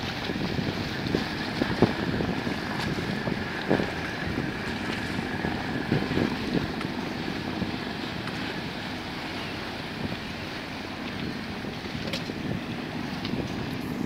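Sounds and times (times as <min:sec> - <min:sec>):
boat engines rushing: 0:00.0 - 0:14.0
water wash: 0:00.0 - 0:14.0
wind buffeting microphone: 0:00.0 - 0:14.0.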